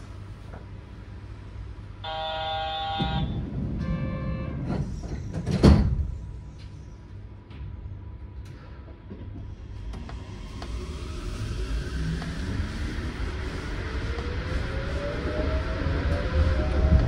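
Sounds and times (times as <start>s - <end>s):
low hum of train: 0.0s - 17.0s.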